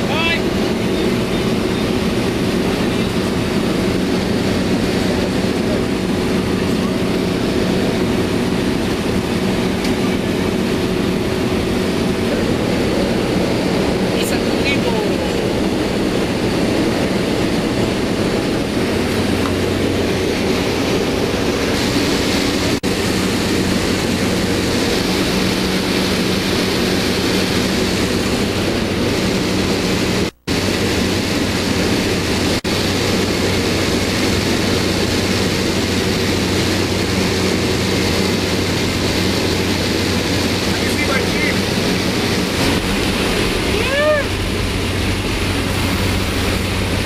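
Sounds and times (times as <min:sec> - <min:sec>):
plane engine drone from cabin: 0:00.0 - 0:47.0.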